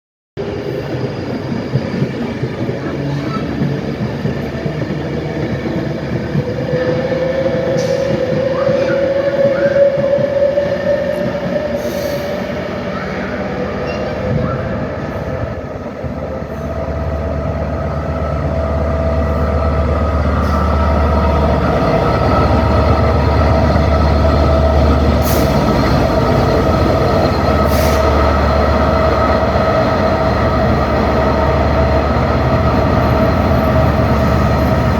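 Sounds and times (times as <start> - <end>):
train low hum: 0.4 - 34.9
train high squeal: 0.5 - 34.9.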